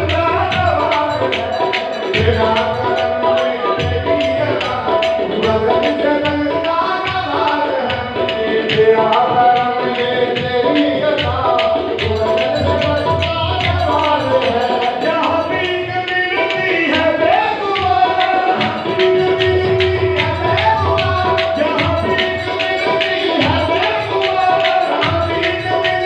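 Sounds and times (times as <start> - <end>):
harmonium notes: 0.0 - 26.0
person singing: 0.0 - 26.0
tabla drumming: 0.0 - 26.0.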